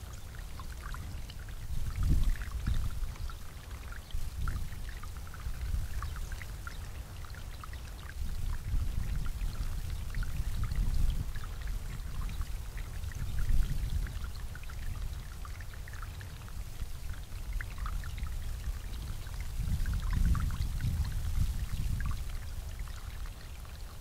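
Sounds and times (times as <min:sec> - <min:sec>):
water feature bubbling and splashing: 0:00.0 - 0:24.0.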